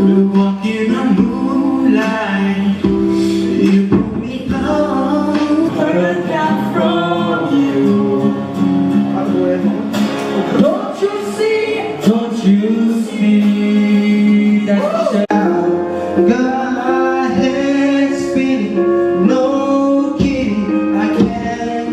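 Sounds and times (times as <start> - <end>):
guitar: 0.0 - 21.9
man singing: 0.0 - 21.9.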